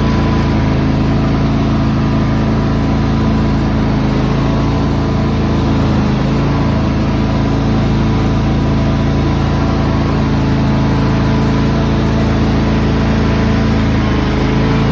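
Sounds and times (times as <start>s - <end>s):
lawn tractor engine running: 0.0s - 14.9s.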